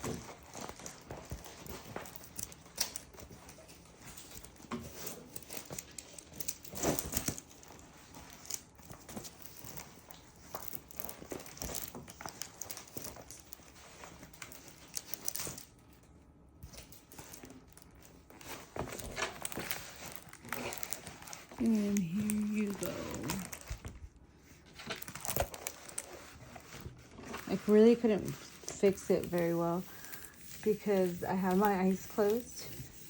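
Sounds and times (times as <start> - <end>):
canvas and plastic packaging rustling: 0.0 - 16.0, 16.7 - 33.0.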